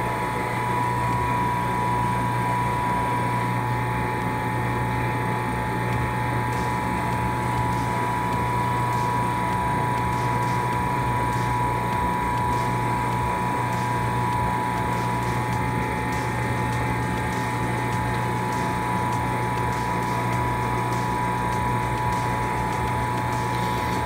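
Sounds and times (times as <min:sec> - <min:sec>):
machine hum with whine: 0:00.0 - 0:24.0.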